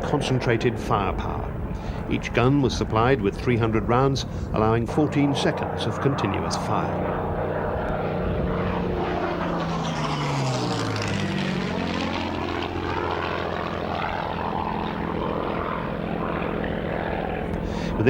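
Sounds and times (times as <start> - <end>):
propeller aircraft flying past: 0.0 - 18.0.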